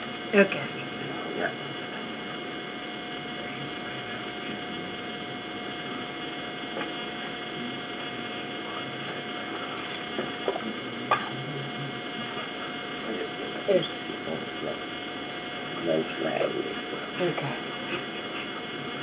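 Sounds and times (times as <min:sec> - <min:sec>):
room hum and hiss: 0:00.0 - 0:19.0.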